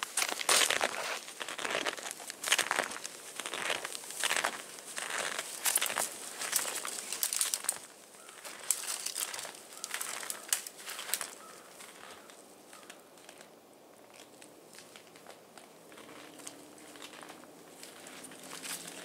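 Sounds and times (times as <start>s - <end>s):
footsteps crunching through snow: 0.0s - 12.9s, 14.7s - 19.0s.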